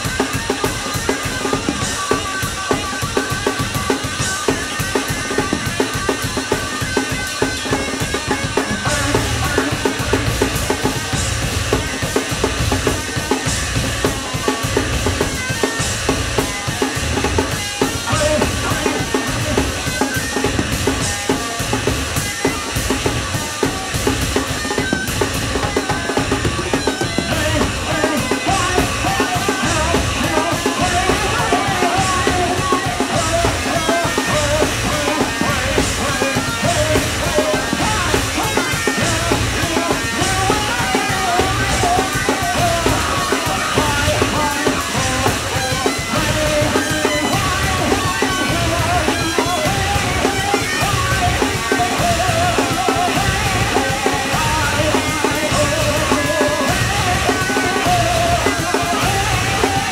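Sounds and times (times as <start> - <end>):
distorted bass guitar: 0.0 - 59.9
drum kit played hard: 0.0 - 59.9.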